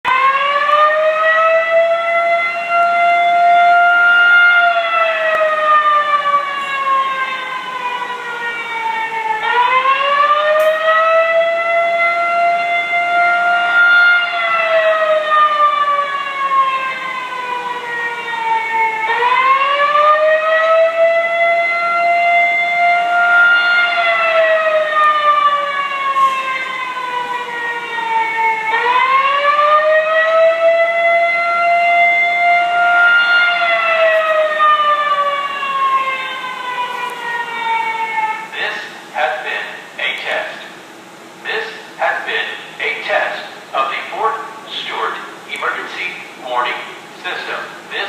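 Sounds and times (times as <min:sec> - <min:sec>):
warning siren wailing: 0:00.0 - 0:40.2.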